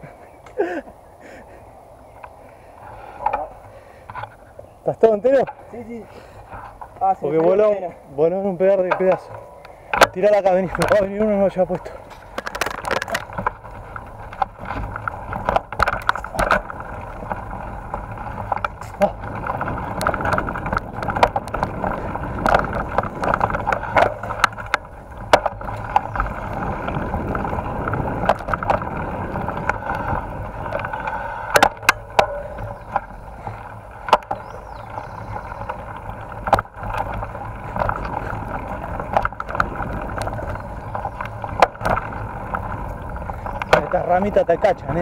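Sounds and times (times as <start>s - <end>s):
bike tyres rumbling on dirt trail: 0.0s - 45.0s
rattles and knocks from bumps: 8.7s - 45.0s.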